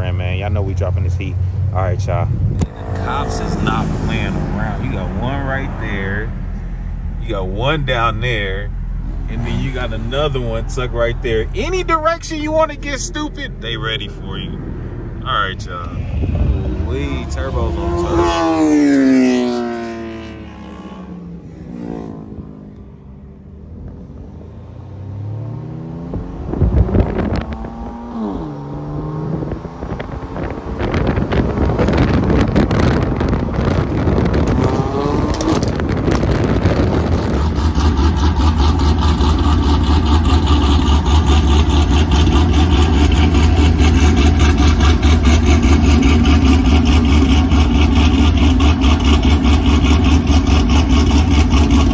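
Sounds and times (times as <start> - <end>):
car engines revving: 0.0 - 51.9
low engine drone: 0.0 - 51.9.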